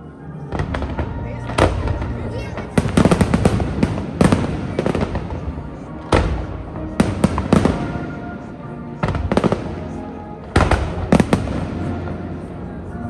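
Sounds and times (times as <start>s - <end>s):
fireworks bursting with bangs: 0.5s - 13.0s.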